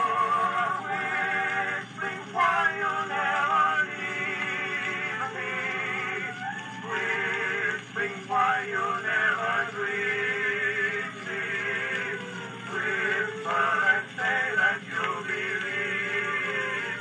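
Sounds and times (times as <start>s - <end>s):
phonograph playing sung song: 0.0s - 17.0s.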